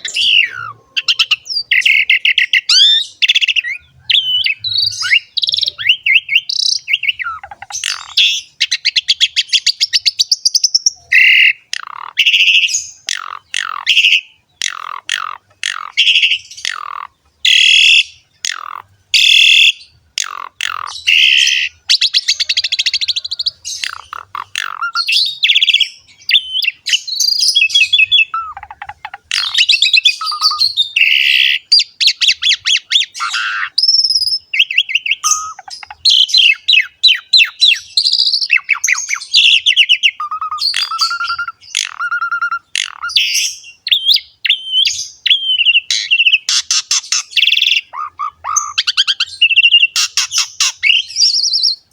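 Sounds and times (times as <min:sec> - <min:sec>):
starling singing: 0:00.0 - 0:51.9.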